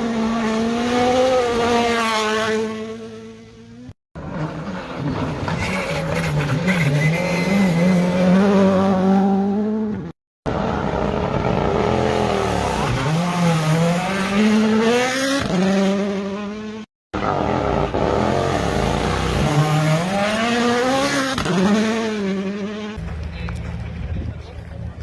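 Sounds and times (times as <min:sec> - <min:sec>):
rally car engines revving: 0:00.0 - 0:25.0.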